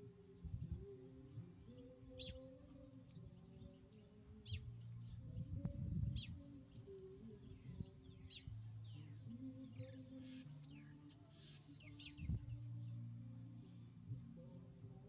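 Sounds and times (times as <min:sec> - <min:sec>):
bird chirping: 0:00.0 - 0:14.5
faint low hum: 0:00.0 - 0:15.0.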